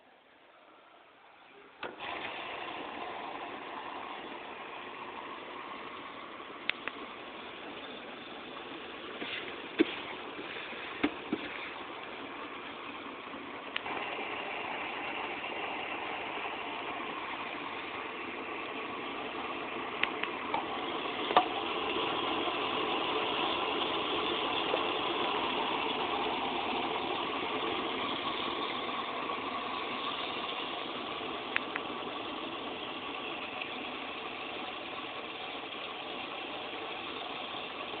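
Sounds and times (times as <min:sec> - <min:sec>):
washing machine churning: 0:01.9 - 0:38.0.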